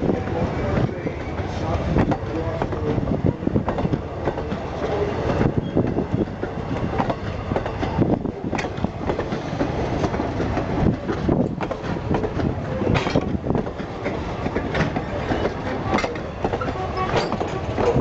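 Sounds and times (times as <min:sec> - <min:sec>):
train rumble: 0:00.0 - 0:18.0
train wheels clattering over rail joints: 0:00.0 - 0:18.0.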